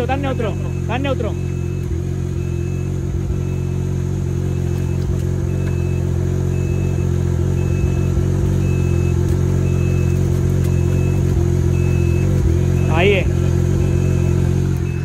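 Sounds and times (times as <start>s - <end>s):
high electronic warning beep: 0.0s - 15.0s
utility vehicle engine idling: 0.0s - 15.0s.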